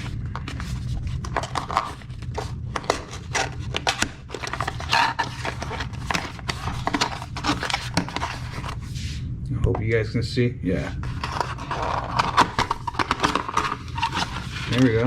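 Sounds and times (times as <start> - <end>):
cardboard scraping and rubbing: 0.0 - 9.0, 11.0 - 15.0
steady low hum: 0.0 - 15.0.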